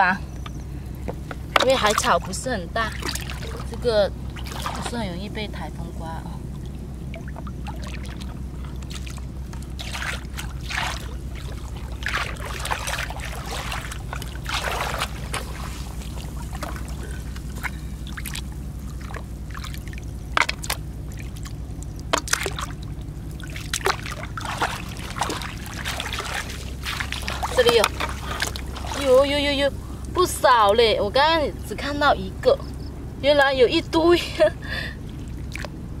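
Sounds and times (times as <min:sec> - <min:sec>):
steady low rumble: 0:00.0 - 0:36.0
seawater splashing: 0:00.9 - 0:32.3, 0:33.4 - 0:36.0.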